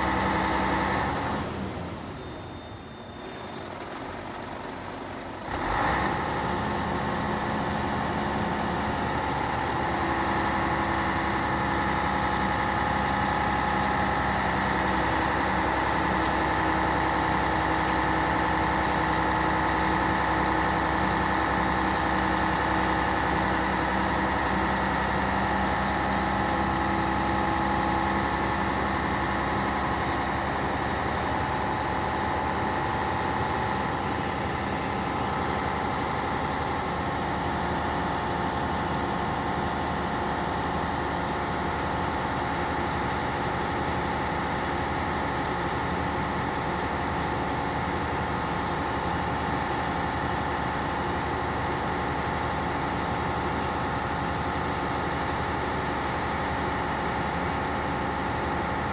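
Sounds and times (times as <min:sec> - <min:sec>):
diesel engine running at raised revs: 0:00.0 - 0:58.9.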